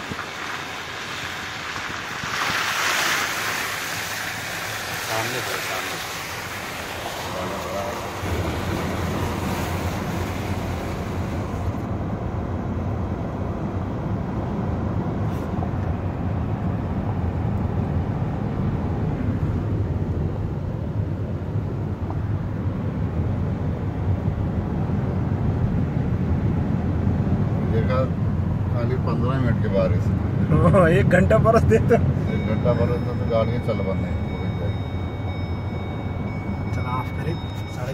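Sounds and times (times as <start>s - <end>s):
vehicle low rumble: 0.0s - 37.9s.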